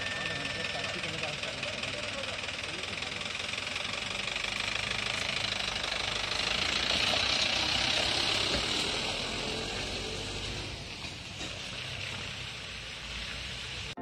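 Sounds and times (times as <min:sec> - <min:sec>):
pickup truck engine driving past: 0:02.0 - 0:14.0.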